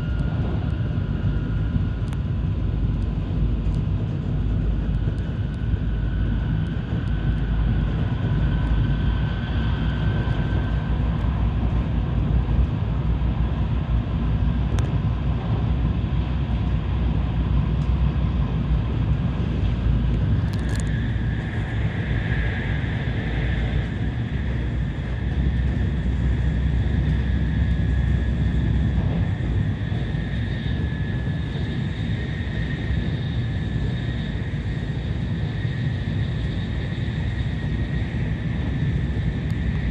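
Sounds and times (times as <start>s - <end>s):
faint steady whine: 0.0s - 39.9s
train wheels rumbling on rail: 0.0s - 39.9s.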